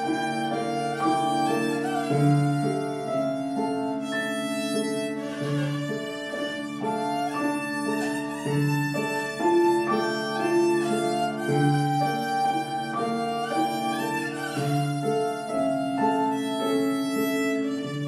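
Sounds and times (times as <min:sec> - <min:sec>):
piano accompaniment: 0:00.0 - 0:18.0
violin melody: 0:00.0 - 0:18.0.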